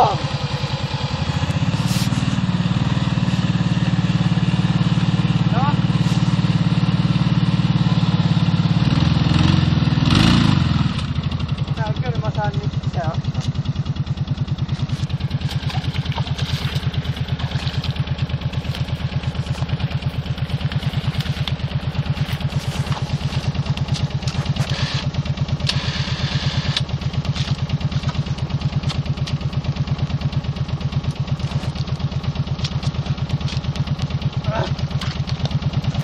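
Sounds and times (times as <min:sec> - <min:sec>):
engine idling: 0:00.0 - 0:36.0.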